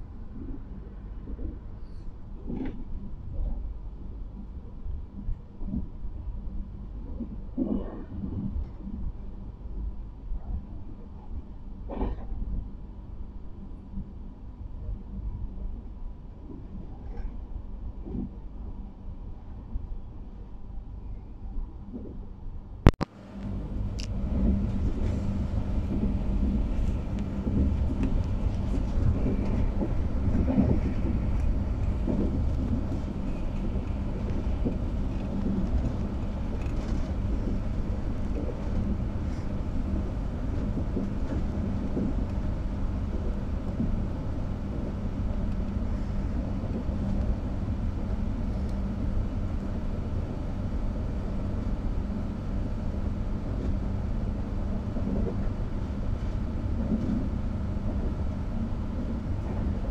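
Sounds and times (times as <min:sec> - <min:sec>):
constant low hum: 0:00.0 - 0:59.9
wheels rumbling on rails: 0:00.0 - 0:59.9.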